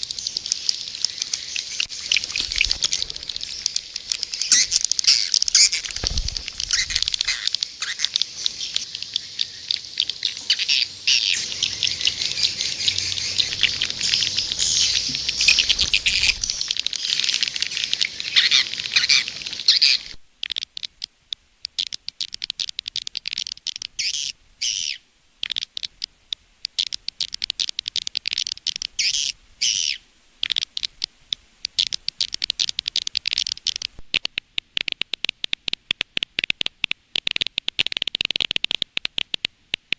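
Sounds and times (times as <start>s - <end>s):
swiftlet twittering and chirping: 0.0s - 34.0s.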